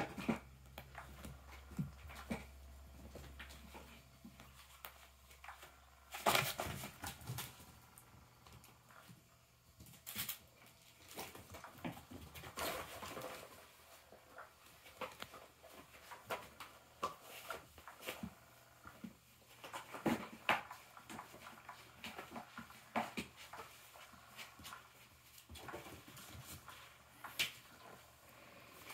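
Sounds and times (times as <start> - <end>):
kittens scuffling on carpet: 0.0 - 28.9.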